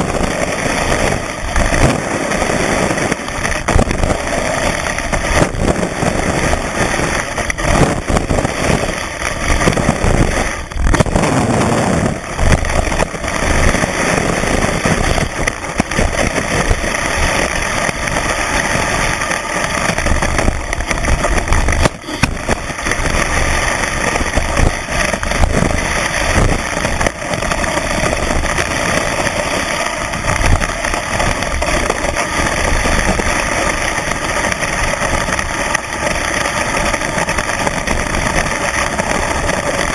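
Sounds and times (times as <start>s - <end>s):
skis scraping over packed snow: 0.0s - 39.9s.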